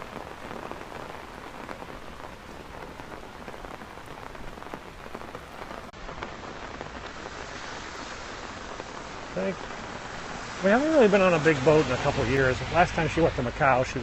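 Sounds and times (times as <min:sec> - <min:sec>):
close raindrop hits: 0:00.0 - 0:13.7
rain falling: 0:00.0 - 0:14.0.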